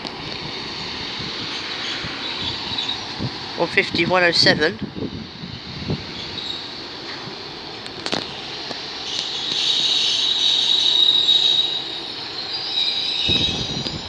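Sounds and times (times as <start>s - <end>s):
high train wheel squeal: 0.0s - 14.0s.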